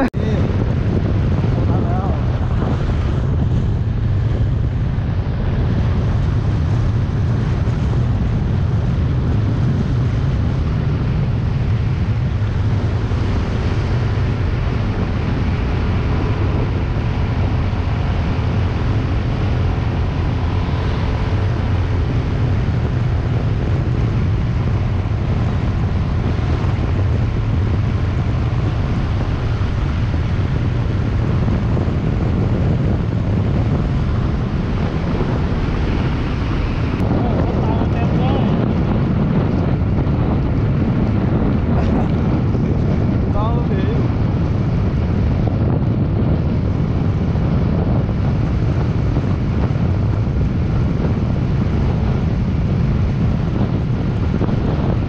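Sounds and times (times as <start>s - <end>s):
scooter engine hum: 0.0s - 55.0s
wind buffeting microphone: 0.0s - 55.0s.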